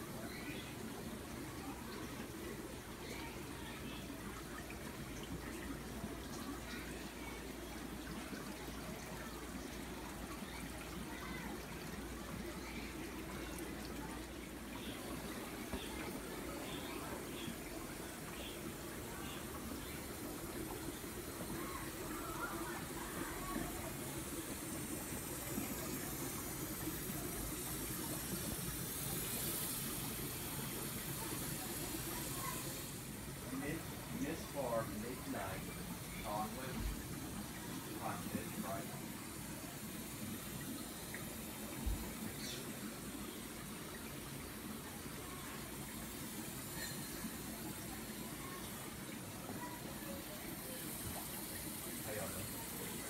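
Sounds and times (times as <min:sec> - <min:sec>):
constant hiss: 0:00.0 - 0:53.0
water trickling and bubbling: 0:00.0 - 0:53.0.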